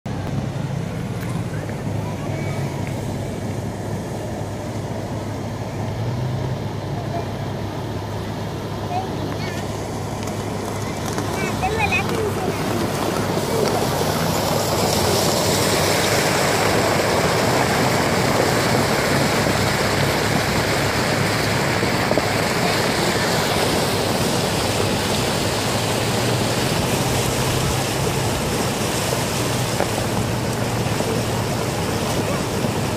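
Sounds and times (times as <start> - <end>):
flood water rushing over gravel: 0.1 - 32.9.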